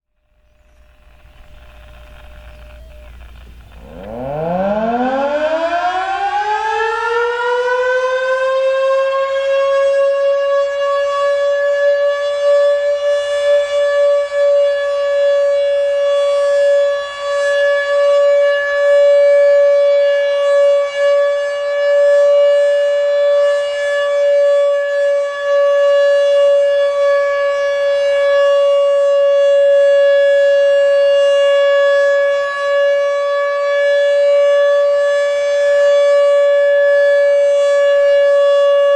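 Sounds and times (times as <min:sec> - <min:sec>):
warning siren wailing: 0:00.8 - 0:38.9.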